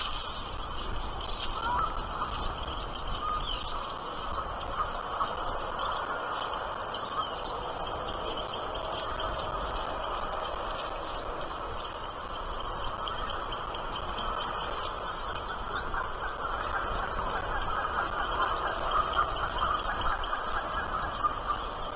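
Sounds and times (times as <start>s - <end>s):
small bird chirping: 0.0s - 21.8s
steady background hiss: 0.0s - 21.9s.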